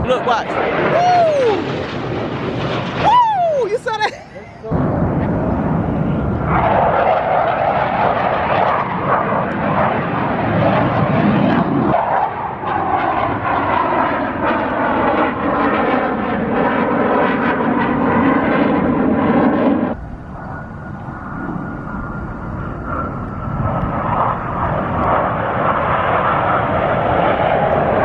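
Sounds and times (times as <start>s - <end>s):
aircraft engine rush flying past: 0.0s - 28.0s.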